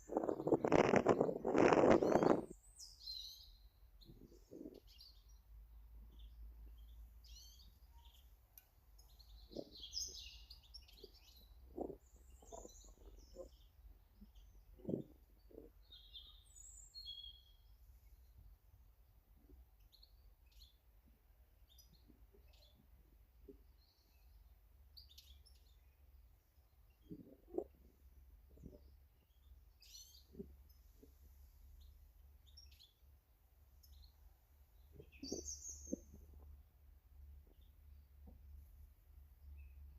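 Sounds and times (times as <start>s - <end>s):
small birds chirping: 0.0s - 18.6s, 19.3s - 39.9s.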